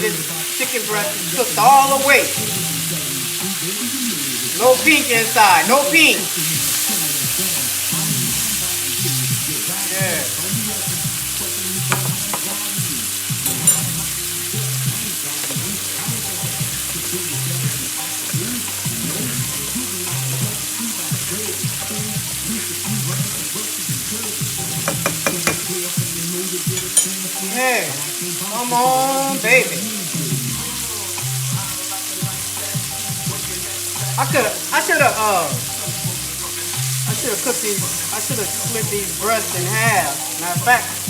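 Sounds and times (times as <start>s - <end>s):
chicken sizzling in a pan: 0.0s - 41.0s.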